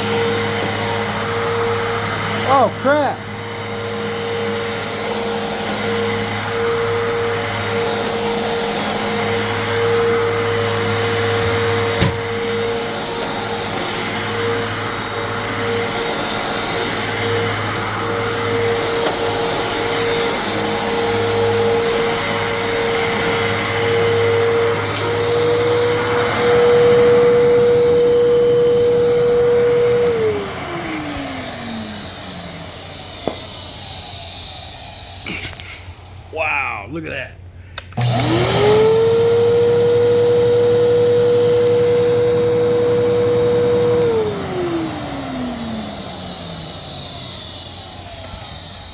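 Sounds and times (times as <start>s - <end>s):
vacuum cleaner motor whine: 0.0s - 36.3s, 37.8s - 48.9s.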